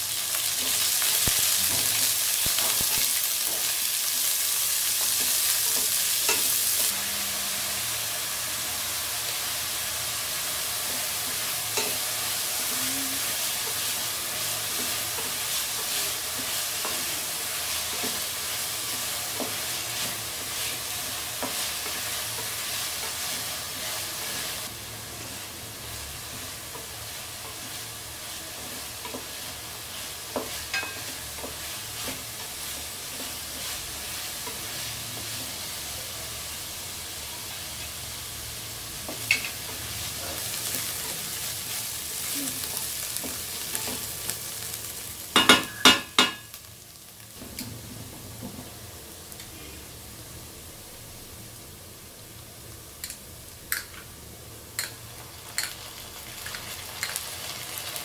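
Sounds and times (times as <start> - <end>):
onions sizzling in hot oil: 0.0 - 58.0.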